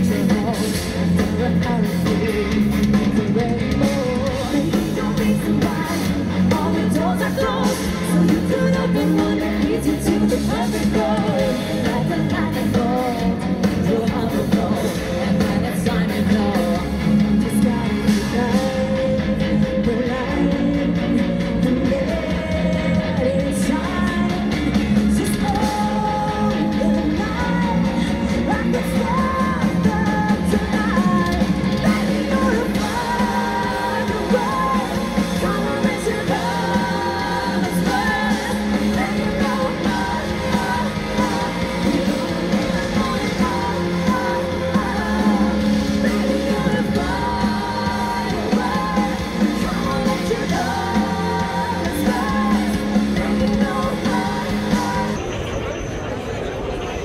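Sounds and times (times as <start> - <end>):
women singing: 0.0 - 55.3
drums: 0.0 - 57.0
electric guitar: 0.0 - 57.0
keyboard: 0.0 - 57.0.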